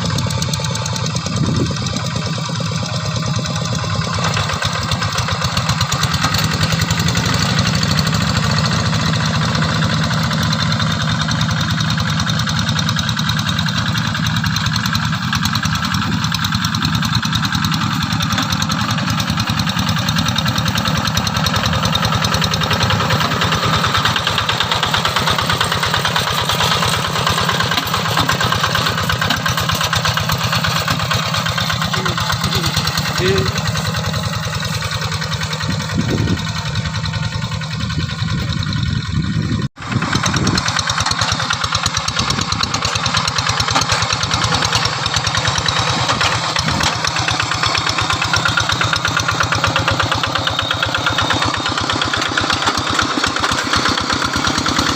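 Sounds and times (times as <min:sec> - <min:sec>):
diesel engine chugging: 0:00.0 - 0:54.9.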